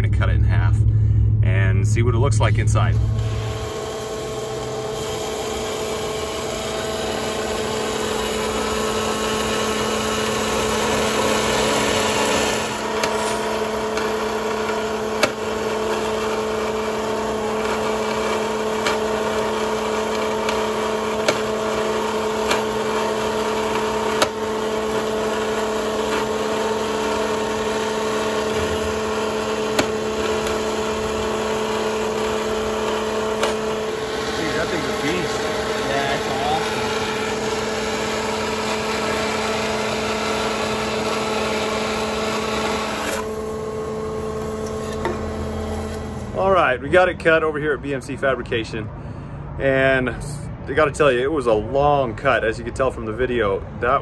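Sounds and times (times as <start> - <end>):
band saw cutting metal: 2.5 - 47.1.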